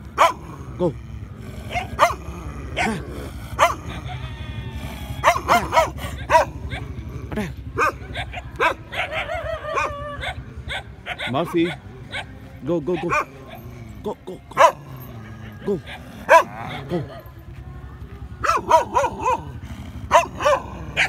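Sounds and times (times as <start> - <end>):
dogs barking: 0.0 - 21.0
steady low rumble: 0.0 - 21.0.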